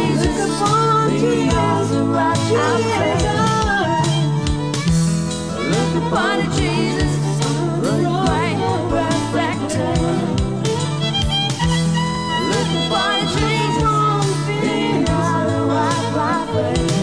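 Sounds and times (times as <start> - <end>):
woman singing: 0.0 - 4.2, 5.6 - 10.7, 12.4 - 17.0
acoustic guitar: 0.0 - 17.0
bass notes: 0.0 - 17.0
regular beat: 0.0 - 17.0.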